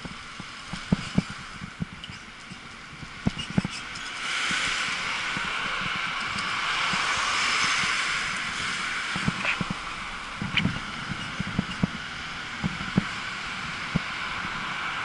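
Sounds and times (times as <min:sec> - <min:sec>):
tyres hissing on asphalt: 0:00.0 - 0:15.0.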